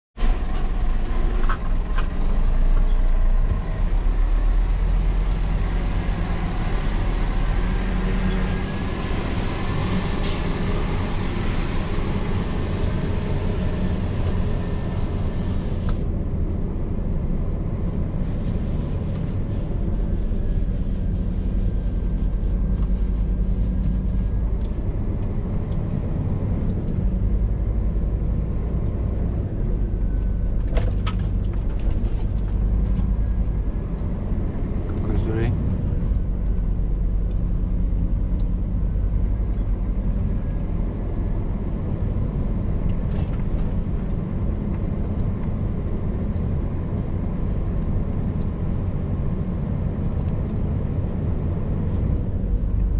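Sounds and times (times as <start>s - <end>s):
diesel engine droning: 0.2s - 52.9s.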